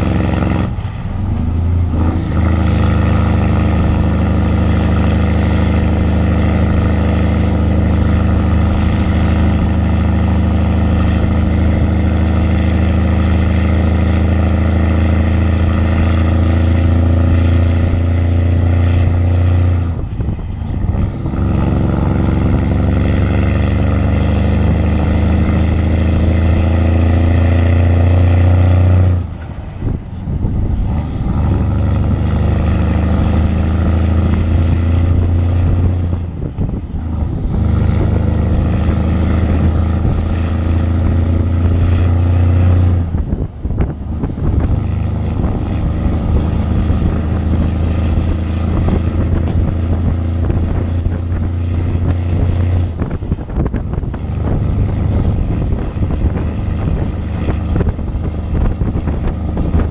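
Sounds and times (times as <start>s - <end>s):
truck engine pulling hard: 0.0s - 59.9s.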